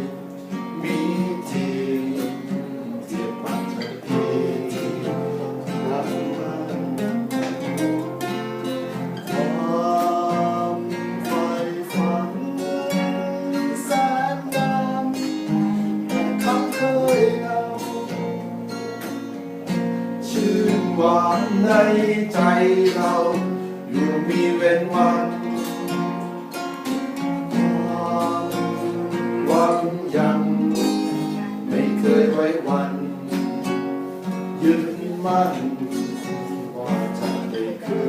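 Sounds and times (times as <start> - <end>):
instrumental melody line: 0.0 - 38.0
strummed acoustic guitar: 0.0 - 38.0.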